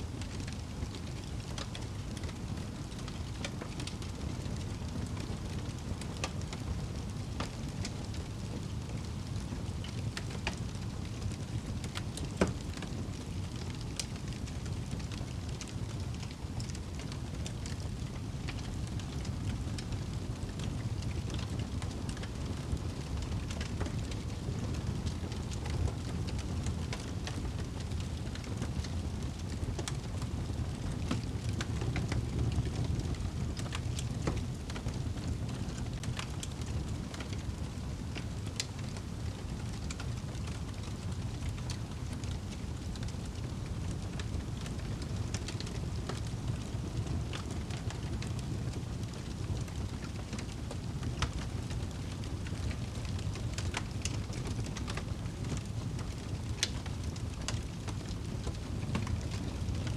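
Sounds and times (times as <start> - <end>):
fire crackles and pops: 0.0 - 59.9
wood fire rumbling: 0.0 - 59.9.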